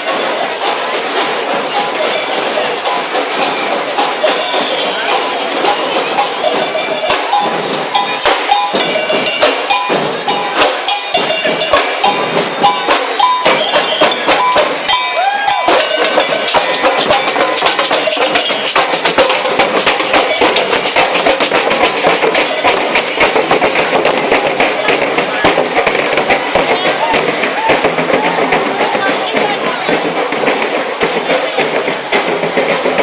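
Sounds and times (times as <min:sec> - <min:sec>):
clanking cowbell-like beat: 0:00.0 - 0:33.0
procession drums: 0:00.0 - 0:33.0.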